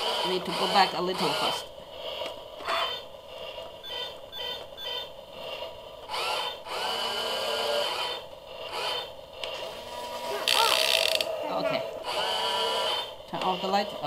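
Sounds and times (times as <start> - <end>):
toy crane motors whirring: 0.0 - 14.0.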